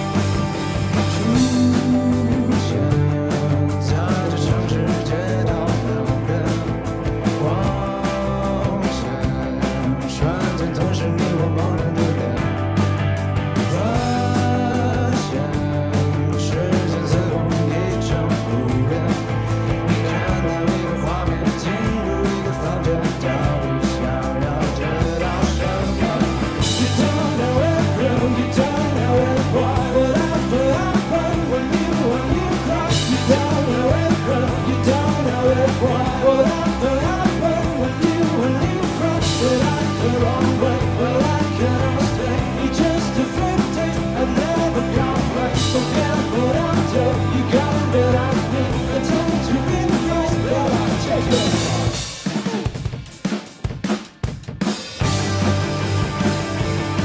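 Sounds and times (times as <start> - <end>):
bass guitar: 0.0 - 53.0, 54.8 - 57.0
electric guitar: 0.0 - 53.0, 54.8 - 57.0
drum kit: 0.0 - 57.0
male lead vocal: 0.9 - 52.7.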